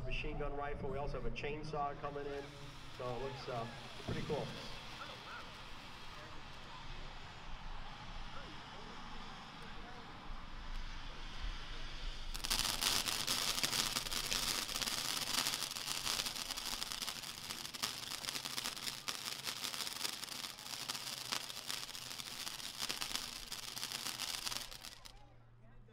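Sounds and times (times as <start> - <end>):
firework fountain hissing and crackling: 1.8 - 25.3.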